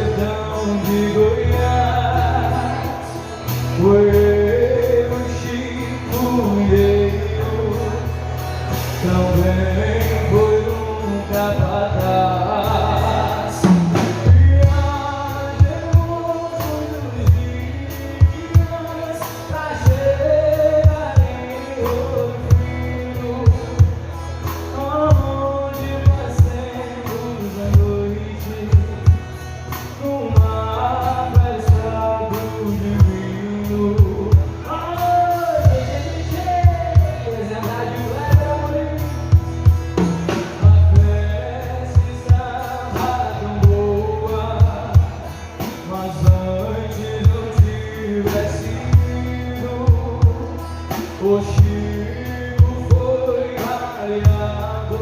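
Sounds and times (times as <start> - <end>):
live band music: 0.0 - 55.0
steady drum beat: 0.0 - 55.0.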